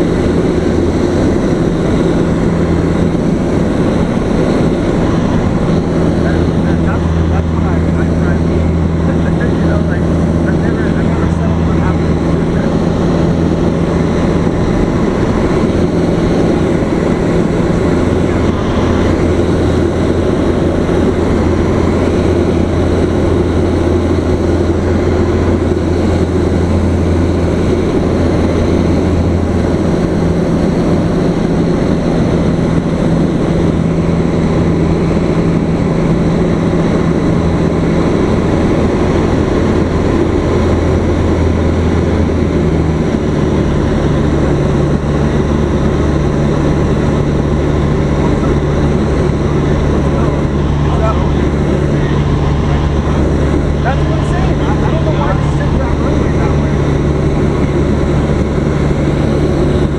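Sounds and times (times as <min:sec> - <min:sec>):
propeller airplane engine droning: 0:00.0 - 0:59.9.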